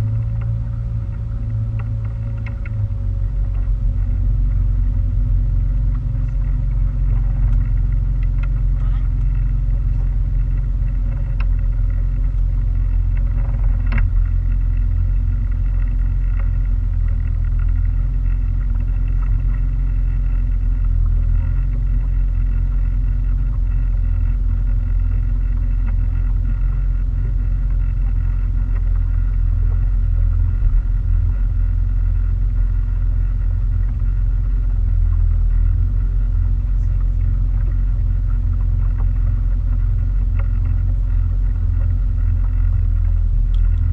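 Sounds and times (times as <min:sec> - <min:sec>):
motorboat engine running: 0:00.0 - 0:43.9.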